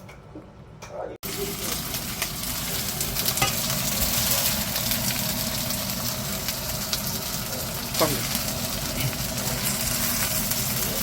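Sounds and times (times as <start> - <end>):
batter sizzling in oil: 1.2 - 11.0.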